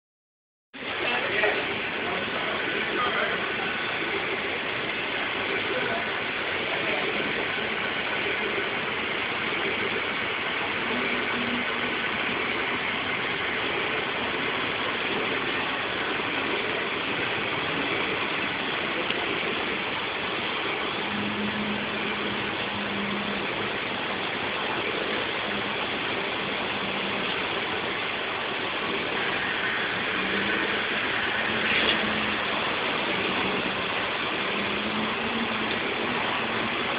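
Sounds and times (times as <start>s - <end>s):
model train running on track: 0.8s - 36.9s.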